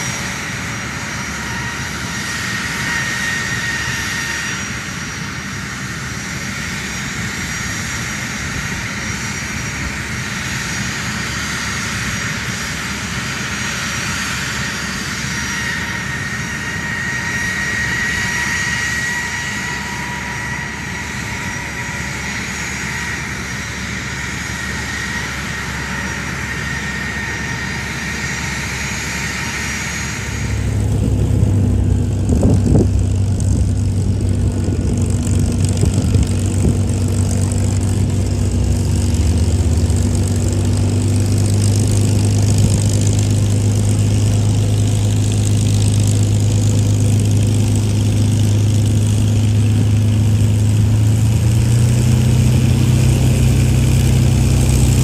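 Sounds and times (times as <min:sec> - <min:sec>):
jet engine high-pitched whine: 0:00.0 - 0:55.0.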